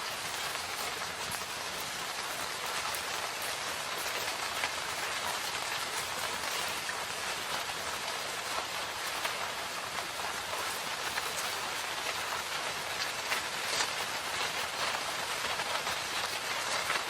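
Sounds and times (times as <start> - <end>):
rain falling in forest: 0.0 - 17.0.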